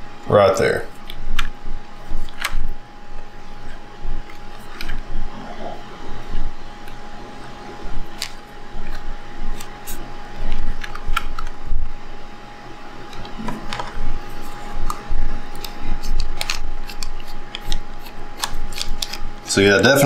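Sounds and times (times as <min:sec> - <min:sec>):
small fan humming: 0:00.0 - 0:20.0.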